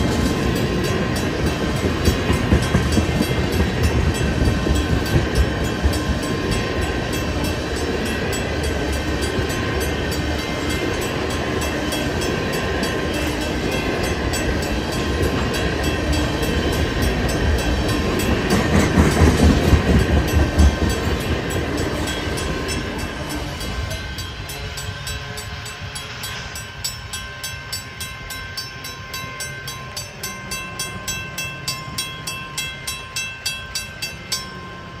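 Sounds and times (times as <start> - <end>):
freight train wheels rumbling: 0.0 - 35.0
level-crossing warning bell: 0.0 - 35.0.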